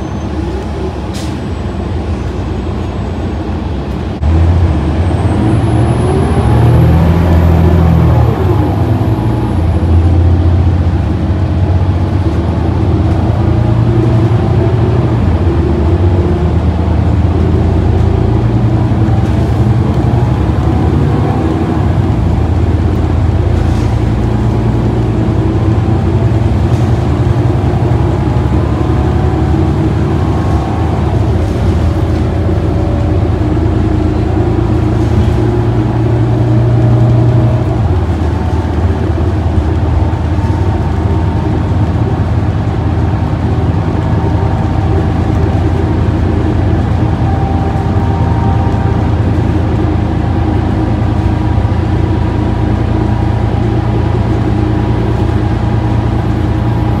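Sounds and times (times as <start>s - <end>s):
bus diesel engine droning: 0.0s - 57.0s
road noise: 0.0s - 57.0s.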